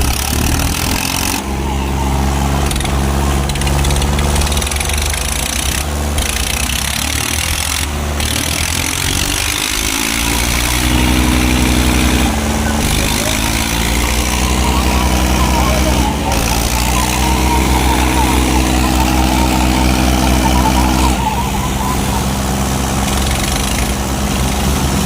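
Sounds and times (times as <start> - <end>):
diesel tractor engines under load: 0.0 - 25.0.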